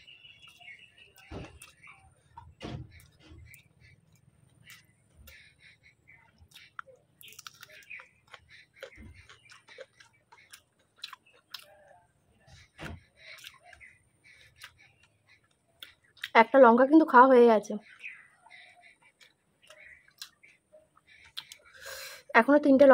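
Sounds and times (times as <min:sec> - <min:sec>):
person chewing: 0:00.4 - 0:16.4, 0:17.8 - 0:22.2
mouth clicks and smacks: 0:01.1 - 0:16.5, 0:17.8 - 0:22.0.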